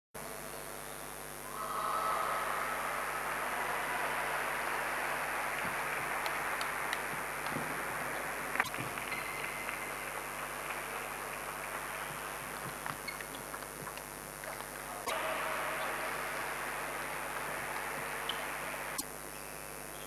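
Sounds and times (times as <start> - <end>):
crowd applause: 1.4 - 19.0.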